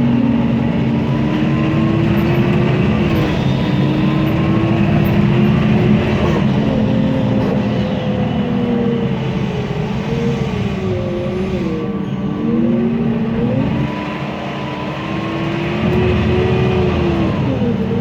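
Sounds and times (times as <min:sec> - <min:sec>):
bus engine drone with whine: 0:00.0 - 0:18.0.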